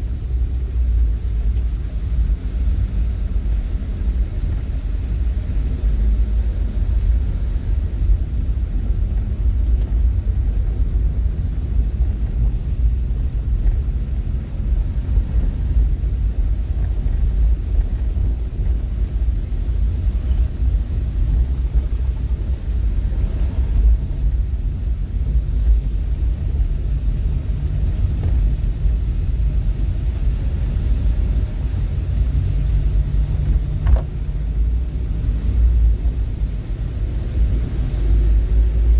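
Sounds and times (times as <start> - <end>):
road noise: 0.0 - 38.9
vehicle engine hum: 0.0 - 38.9.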